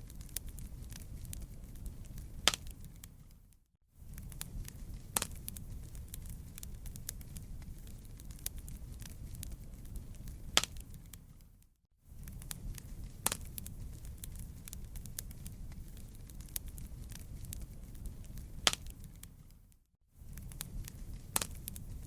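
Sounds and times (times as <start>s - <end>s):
campfire crackling and popping: 0.0s - 22.0s
loud fire snaps: 0.0s - 22.0s
low rumble of flame: 0.0s - 22.0s.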